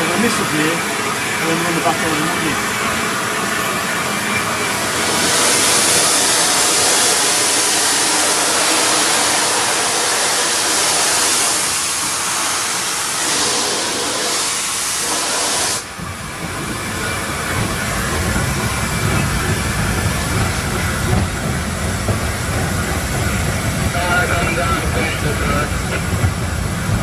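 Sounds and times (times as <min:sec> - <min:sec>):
steam locomotive hissing: 0:00.0 - 0:27.0.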